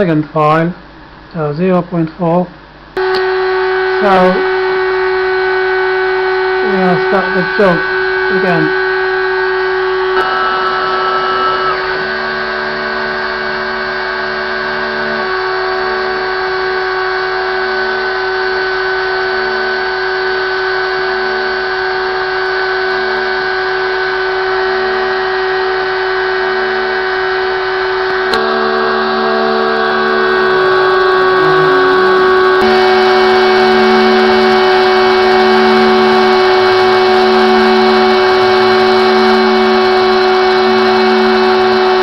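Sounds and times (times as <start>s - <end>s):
stepper motors humming: 0.0s - 42.0s
router spindle whine: 2.7s - 42.0s.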